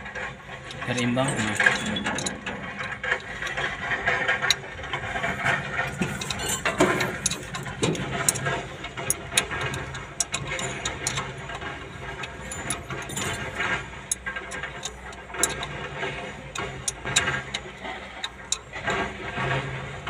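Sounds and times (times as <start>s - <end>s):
spanner clinking on bolts: 0.0s - 19.7s
low mechanical hum: 0.0s - 20.0s.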